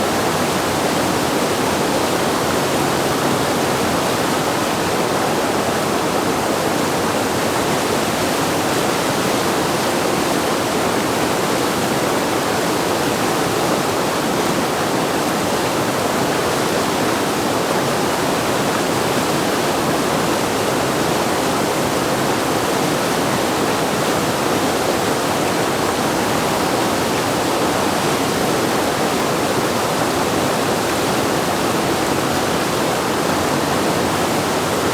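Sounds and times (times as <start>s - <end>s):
rushing whitewater: 0.0s - 34.9s.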